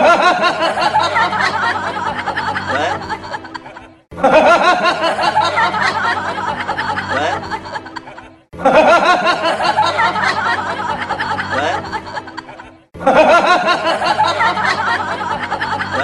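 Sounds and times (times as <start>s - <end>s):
background music: 0.0s - 16.0s
voices snickering and chuckling: 0.0s - 16.0s.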